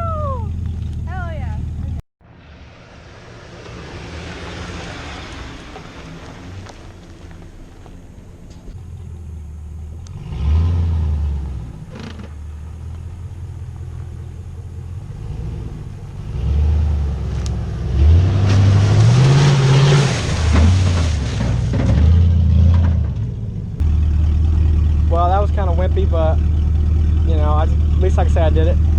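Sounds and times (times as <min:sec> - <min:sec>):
truck engine revving: 0:00.2 - 0:28.9.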